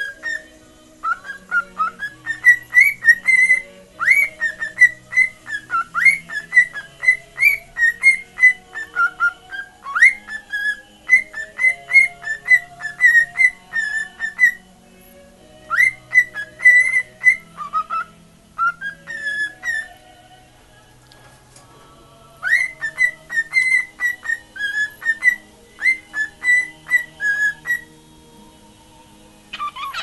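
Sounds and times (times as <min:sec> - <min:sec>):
cockatiel whistling: 0:00.0 - 0:14.7, 0:15.7 - 0:20.0, 0:22.4 - 0:28.0, 0:29.5 - 0:30.0.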